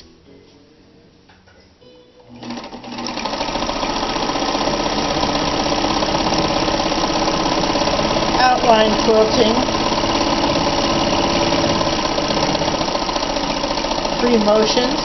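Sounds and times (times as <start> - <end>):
sewing machine stitching clatter: 2.4 - 15.0.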